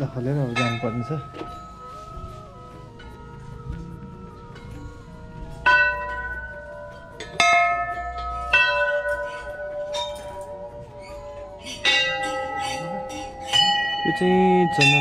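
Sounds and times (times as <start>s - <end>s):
large metal bells ringing: 0.0s - 15.0s.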